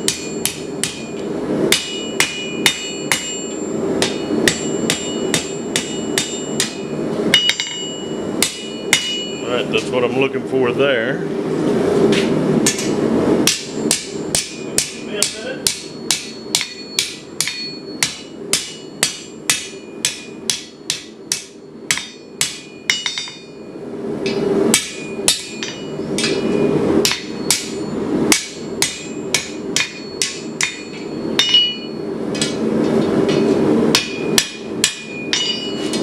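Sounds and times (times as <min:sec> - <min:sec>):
hammer striking steel on anvil: 0:00.0 - 0:09.5, 0:12.6 - 0:36.0.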